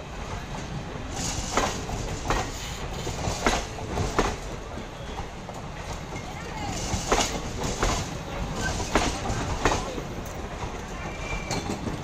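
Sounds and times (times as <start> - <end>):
train coaches rumbling past: 0.0 - 12.0
wheels clacking over rail joints: 0.5 - 12.0.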